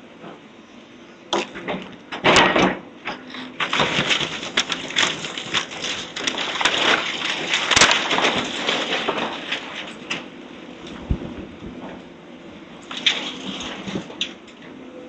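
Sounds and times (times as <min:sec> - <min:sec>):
wood and debris crashing: 0:01.3 - 0:12.1, 0:12.7 - 0:14.7.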